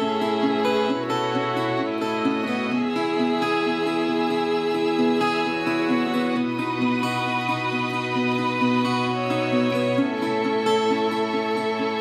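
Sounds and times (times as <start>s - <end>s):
slow gentle instrumental music: 0.0s - 12.0s.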